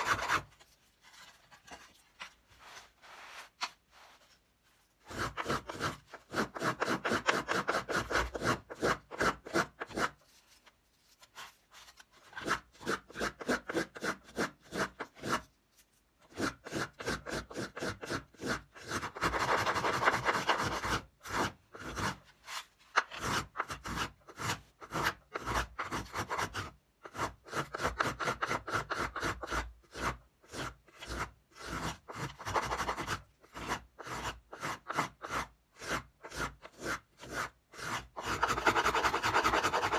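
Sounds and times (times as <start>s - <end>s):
finger plane scraping wood: 0.0s - 0.6s, 5.0s - 10.2s, 12.2s - 15.5s, 16.3s - 39.9s.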